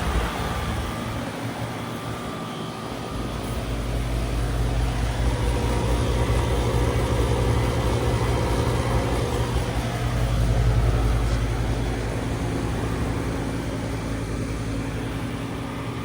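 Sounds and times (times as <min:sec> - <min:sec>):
heat pump unit humming: 0:00.0 - 0:16.0.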